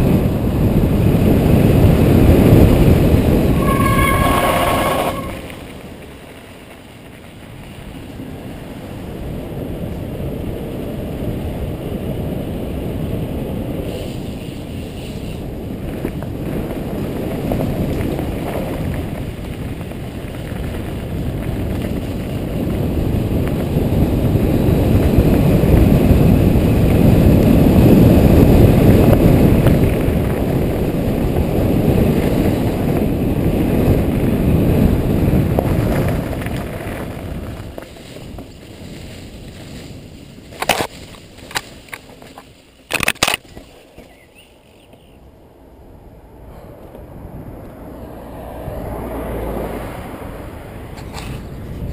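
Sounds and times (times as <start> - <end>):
wind on microphone: 0.0 - 7.2, 7.8 - 51.9
bike tyres rumbling on gravel: 0.0 - 46.1.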